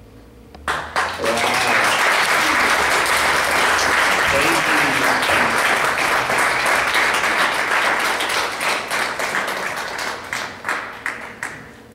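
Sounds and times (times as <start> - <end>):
congregation applauding: 0.6 - 11.8.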